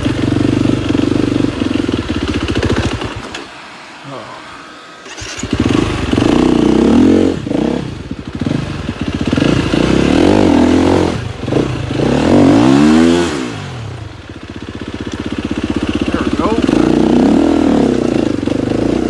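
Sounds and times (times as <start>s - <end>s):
dirt bike engine revving: 0.0s - 3.6s, 5.0s - 19.0s.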